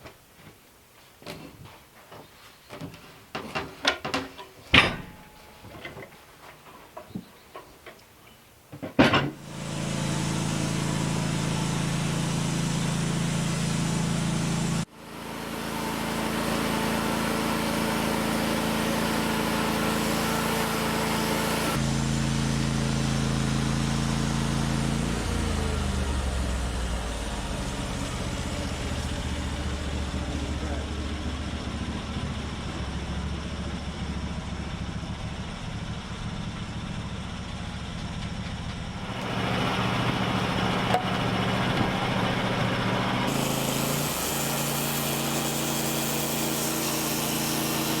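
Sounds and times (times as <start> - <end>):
engine running: 9.2 - 48.0.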